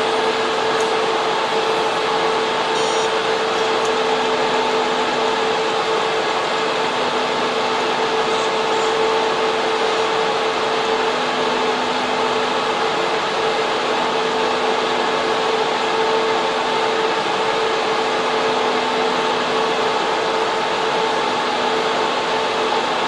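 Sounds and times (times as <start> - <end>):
server cooling fans whooshing: 0.0 - 23.0
steady hum tone: 0.0 - 23.0.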